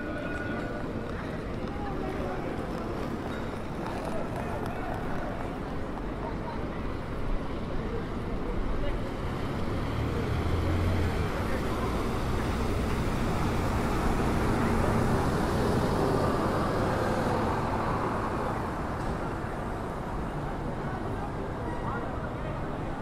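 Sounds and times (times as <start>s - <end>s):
passers-by talking: 0.0s - 23.0s
road noise with engine hum: 0.0s - 23.0s.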